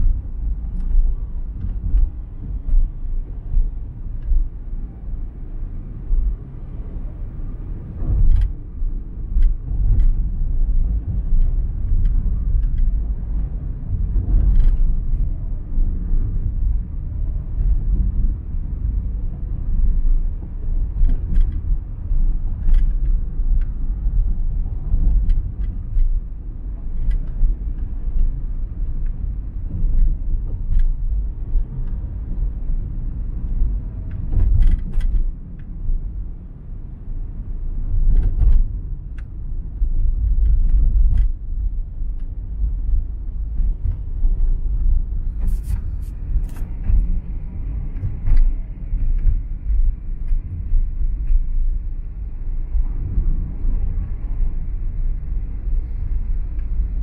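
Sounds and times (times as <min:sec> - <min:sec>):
vehicle road rumble: 0:00.0 - 0:57.0.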